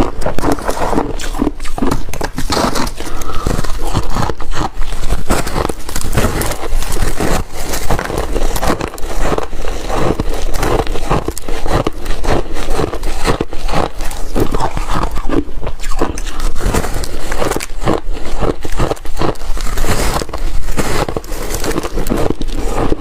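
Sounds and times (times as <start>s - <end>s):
shaved ice crunching: 0.0s - 23.0s.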